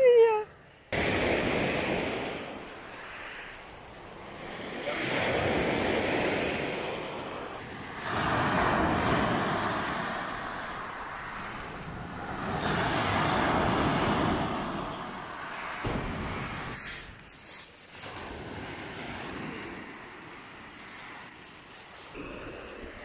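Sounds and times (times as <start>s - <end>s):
waves breaking on shore: 0.0s - 23.0s.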